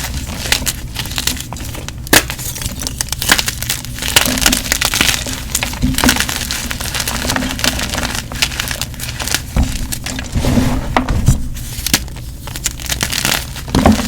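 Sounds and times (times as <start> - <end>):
chalk being crushed: 0.0 - 14.0.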